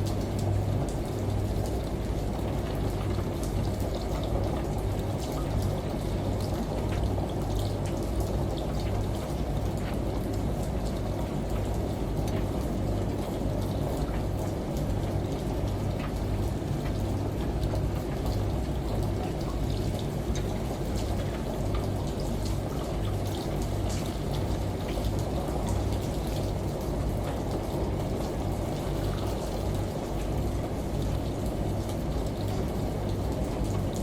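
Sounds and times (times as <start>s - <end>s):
rain: 0.0s - 34.0s
washing machine hum: 0.0s - 34.0s
drip-like ticks: 0.1s - 34.0s.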